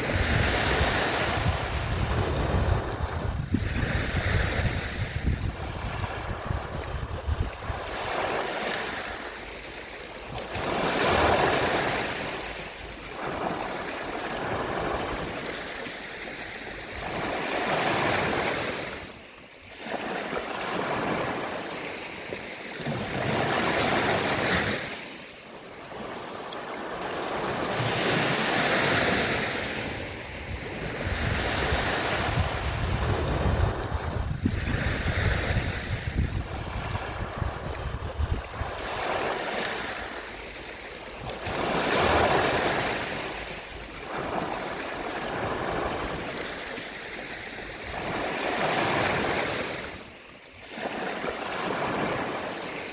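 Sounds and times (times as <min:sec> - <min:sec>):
gentle waves washing on shore: 0:00.0 - 0:52.9.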